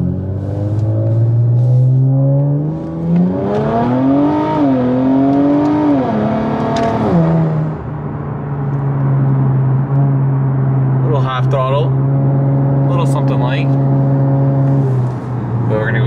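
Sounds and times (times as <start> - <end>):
car engine accelerating hard: 0.0 - 7.9, 8.7 - 16.0.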